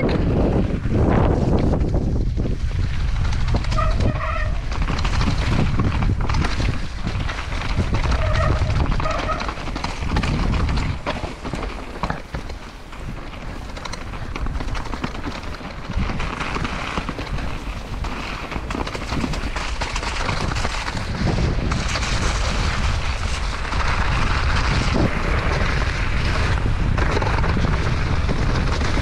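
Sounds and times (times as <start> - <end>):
bike frame and chain rattling: 0.0 - 29.0
tyres rolling over dirt: 0.0 - 29.0
wind buffeting microphone: 0.0 - 29.0.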